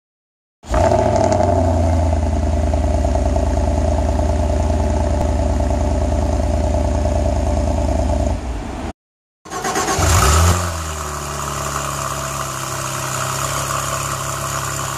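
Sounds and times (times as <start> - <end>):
car engine starting and idling: 0.7 - 8.9, 9.5 - 14.9.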